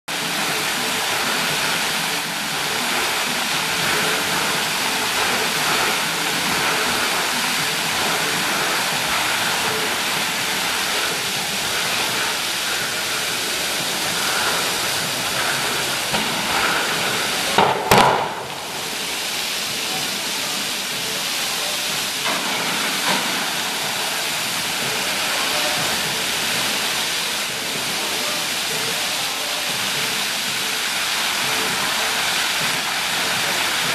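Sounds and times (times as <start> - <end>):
fountain water jets splashing: 0.1 - 33.9.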